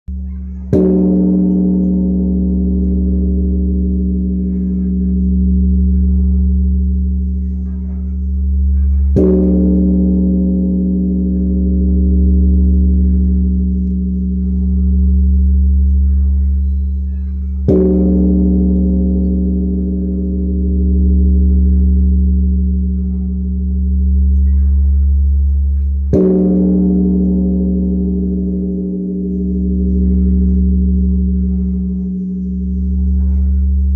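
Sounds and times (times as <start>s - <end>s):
large temple bell ringing: 0.1s - 33.9s.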